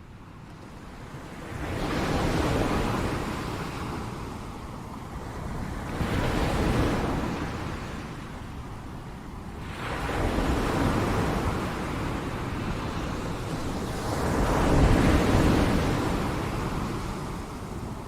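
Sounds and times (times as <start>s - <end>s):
wind rumble on microphone: 0.0s - 18.0s
waves breaking on beach: 1.4s - 18.0s.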